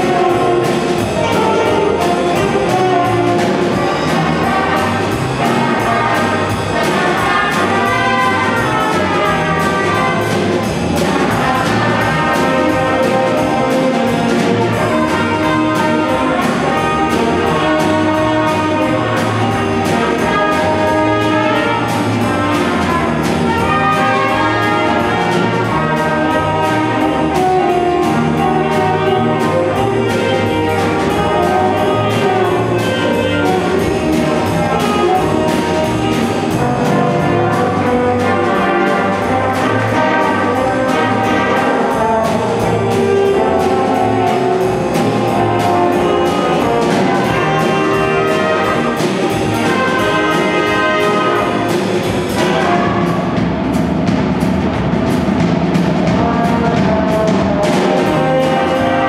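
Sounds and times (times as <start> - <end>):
jazz big band playing: 0.0 - 59.0
steady drum beat: 0.0 - 59.0.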